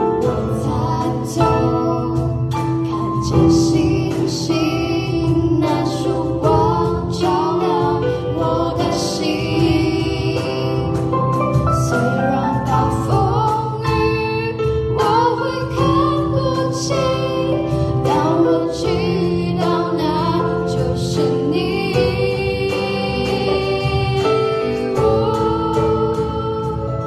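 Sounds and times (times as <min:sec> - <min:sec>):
sustained keyboard chords: 0:00.0 - 0:27.0
woman singing slow song: 0:00.0 - 0:27.0.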